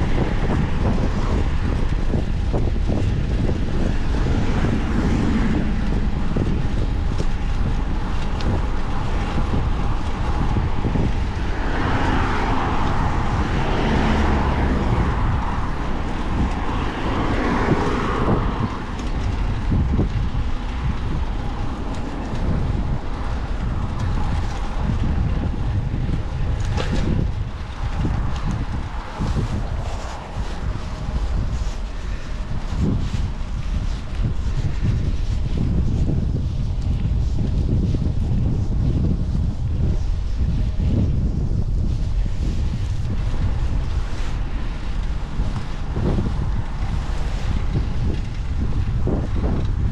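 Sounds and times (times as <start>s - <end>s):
road and traffic noise: 0.0s - 49.9s
wind buffeting microphone: 0.0s - 49.9s.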